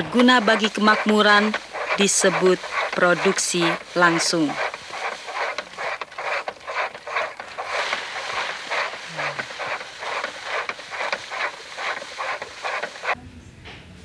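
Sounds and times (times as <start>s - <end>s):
rice stalks rattling on threshing drum: 0.0s - 13.2s.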